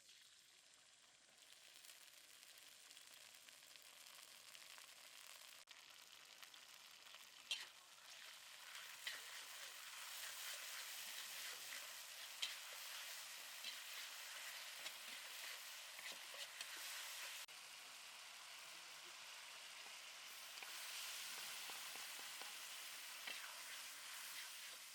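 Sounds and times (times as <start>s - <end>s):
food sizzling in a pan: 0.0s - 24.9s.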